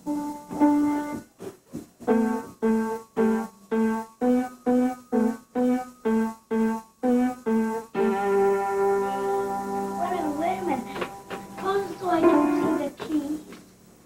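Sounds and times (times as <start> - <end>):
keyboard playing simple tune: 0.0 - 1.3, 2.0 - 13.0.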